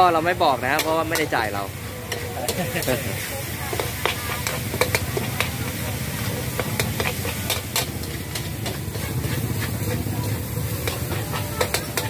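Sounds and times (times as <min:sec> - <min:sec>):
meat sizzling in a wok: 0:00.0 - 0:12.0
metal spatula scraping wok: 0:00.1 - 0:12.0.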